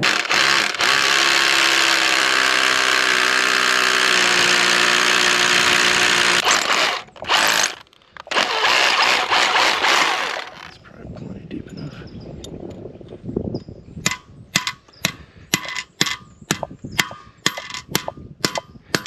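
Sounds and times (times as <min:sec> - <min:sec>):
rotary hammer drilling concrete: 0:00.0 - 0:10.8, 0:14.1 - 0:19.0.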